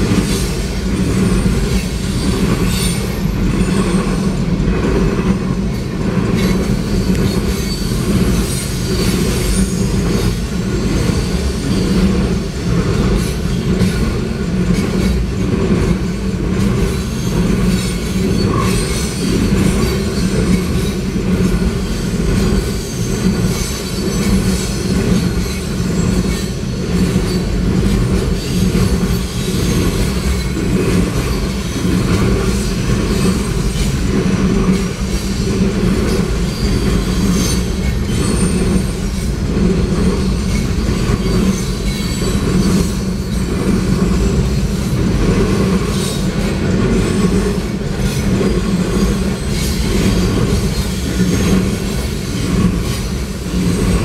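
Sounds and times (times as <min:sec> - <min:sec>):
high wheel squeal: 0:00.0 - 0:54.0
train wheels rumbling on rail: 0:00.0 - 0:54.0
wheels clacking over rail joints: 0:00.0 - 0:54.0.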